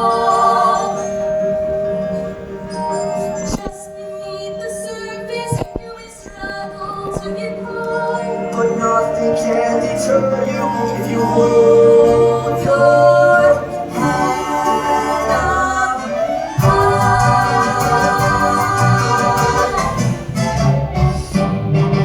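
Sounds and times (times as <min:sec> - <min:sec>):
voices singing a show tune: 0:00.0 - 0:01.6, 0:03.4 - 0:21.6
musical accompaniment: 0:00.0 - 0:22.0.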